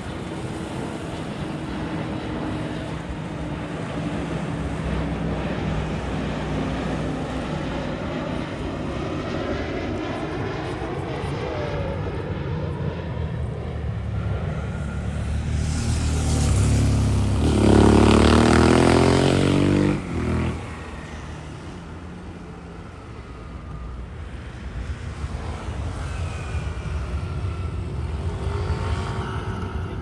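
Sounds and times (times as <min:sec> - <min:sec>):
jet engine roar with whine: 0:00.0 - 0:30.0.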